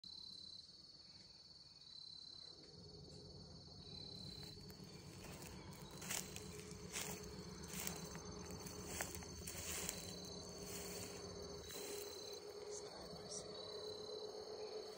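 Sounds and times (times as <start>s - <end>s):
faint insect trill: 0.0s - 14.9s.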